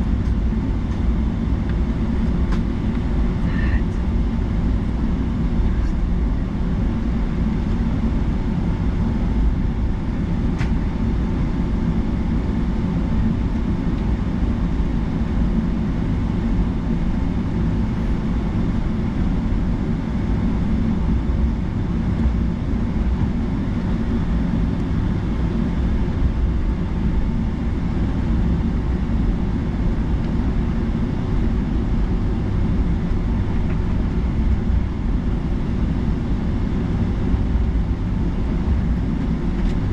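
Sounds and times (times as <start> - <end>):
airliner engines rumbling: 0.0 - 39.9
faint steady whine: 0.0 - 39.9.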